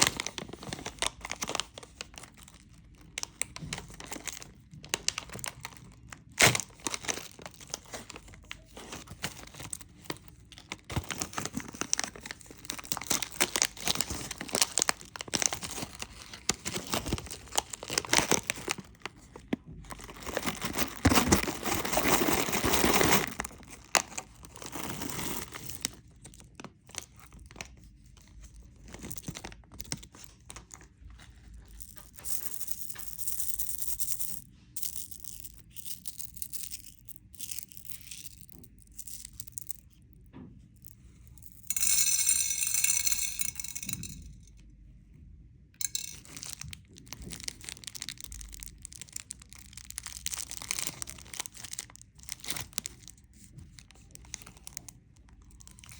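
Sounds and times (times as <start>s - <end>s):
plastic candy wrappers crinkling: 0.0s - 40.0s, 40.8s - 44.5s, 45.8s - 55.9s.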